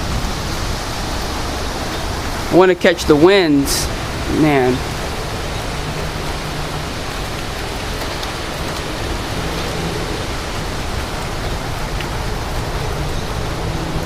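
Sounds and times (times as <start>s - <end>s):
rain: 0.0s - 14.0s
strong wind: 0.0s - 14.0s
wind buffeting microphone: 0.0s - 14.0s.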